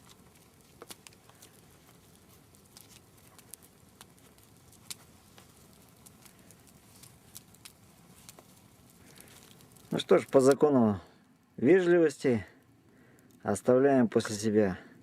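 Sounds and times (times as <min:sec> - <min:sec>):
sharp crackles and clicks: 0:00.0 - 0:14.5.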